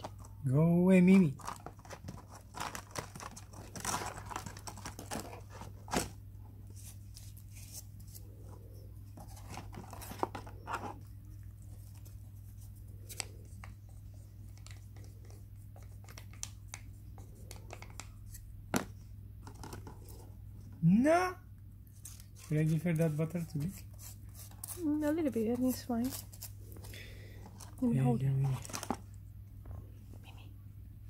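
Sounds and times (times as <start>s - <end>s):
rustles and scrapes of handling: 0.0s - 18.4s, 21.8s - 30.5s.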